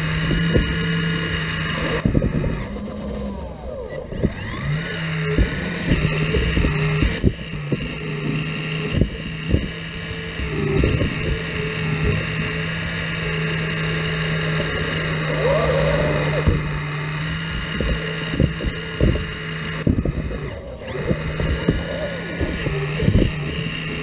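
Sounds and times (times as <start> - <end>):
excavator engine drone: 0.0 - 24.0.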